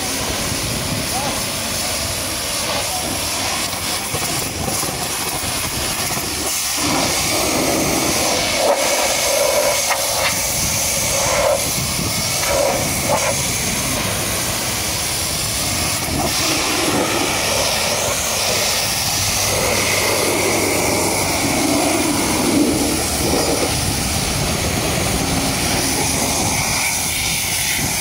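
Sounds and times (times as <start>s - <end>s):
pressure washer spraying: 0.0s - 28.0s.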